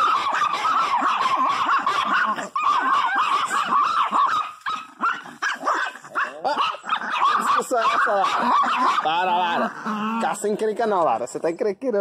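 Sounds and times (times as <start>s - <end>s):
small dogs barking and yipping: 0.0s - 11.0s.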